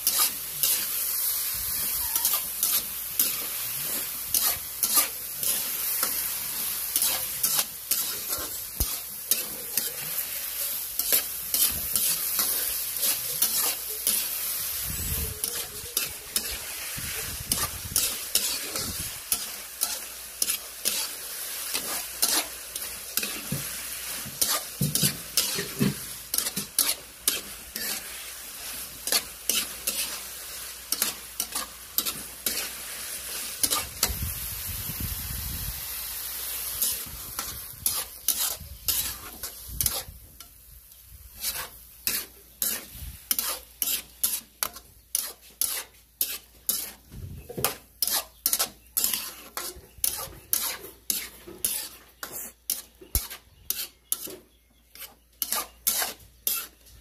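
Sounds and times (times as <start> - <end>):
spatula scraping and knocking pan: 0.0 - 1.1, 1.8 - 14.3, 15.3 - 34.2, 36.8 - 40.6, 41.3 - 57.0
food sizzling in a pan: 0.0 - 57.0.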